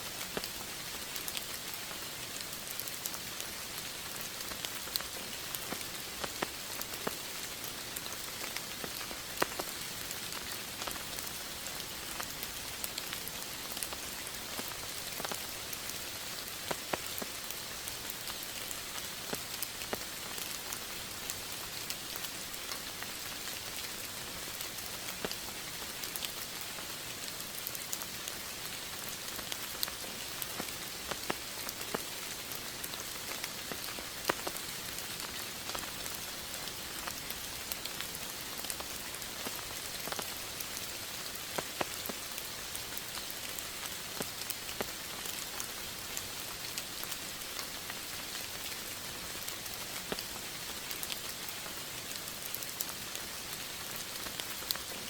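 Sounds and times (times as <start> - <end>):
raindrops pattering on surface: 0.0 - 55.0
steady rain hiss: 0.0 - 55.0.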